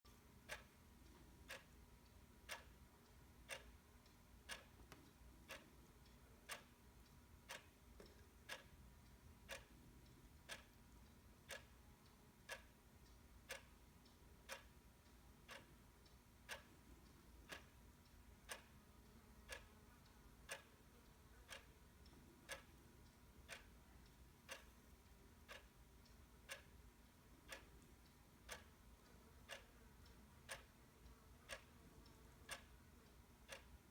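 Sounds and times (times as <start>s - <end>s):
faint clock ticking: 0.1s - 33.9s.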